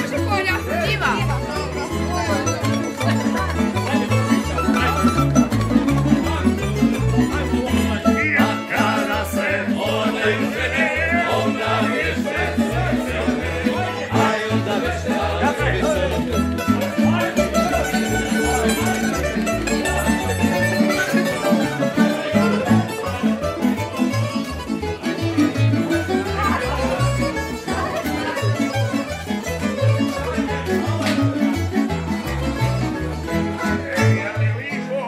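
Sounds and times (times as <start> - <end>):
plucked double bass line: 0.0 - 35.0
plucked string melody: 0.0 - 35.0.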